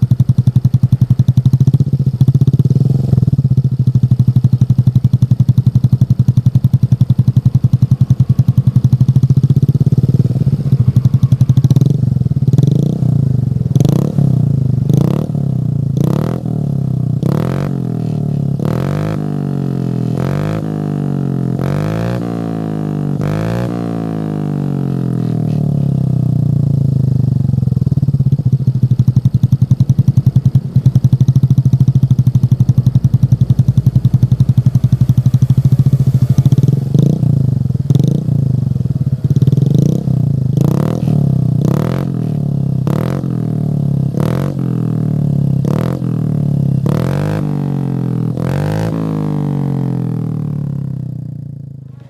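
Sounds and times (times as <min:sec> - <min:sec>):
motorcycle engine idling: 0:00.0 - 0:52.0
motorcycle engine revving: 0:00.0 - 0:52.0.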